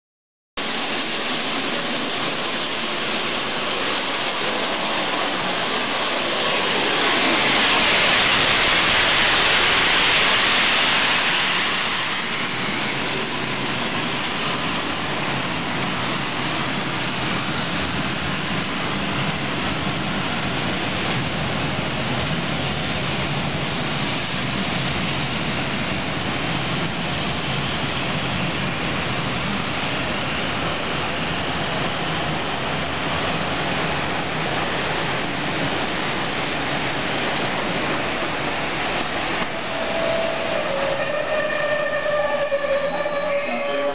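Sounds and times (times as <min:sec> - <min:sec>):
steam locomotive hiss: 0:00.6 - 0:43.9
train coaches rolling on rails: 0:00.6 - 0:43.9.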